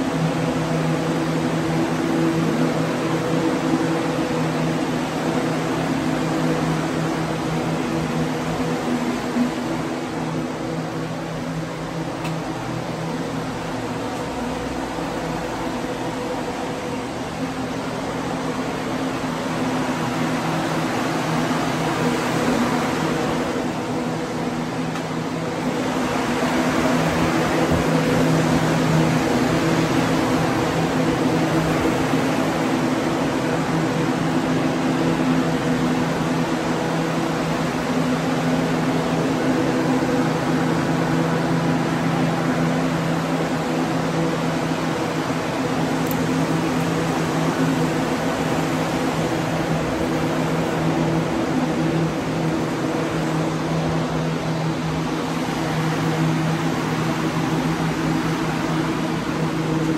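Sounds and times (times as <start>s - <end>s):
drying fans rushing air: 0.0s - 59.9s.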